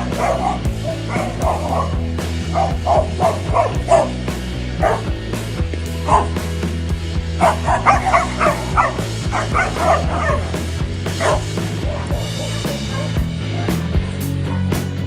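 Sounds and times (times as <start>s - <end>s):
dog barking and yipping: 0.0s - 5.1s, 6.0s - 6.4s, 7.4s - 14.9s
background music: 0.0s - 15.0s.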